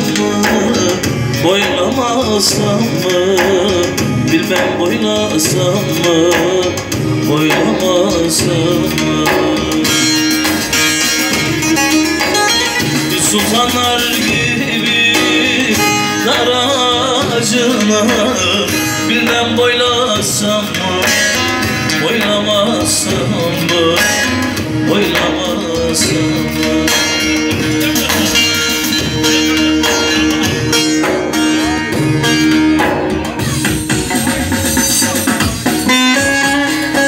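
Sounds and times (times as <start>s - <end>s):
held keyboard accompaniment: 0.0s - 37.0s
plucked long-necked lute melody: 0.0s - 37.0s
steady beat: 0.0s - 37.0s.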